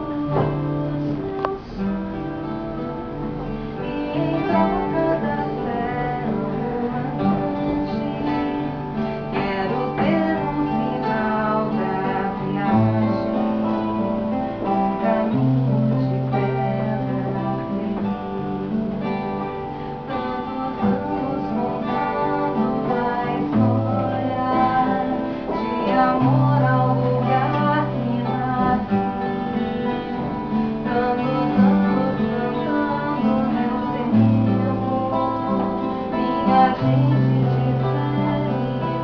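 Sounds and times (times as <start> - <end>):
two acoustic guitars playing: 0.0 - 39.0.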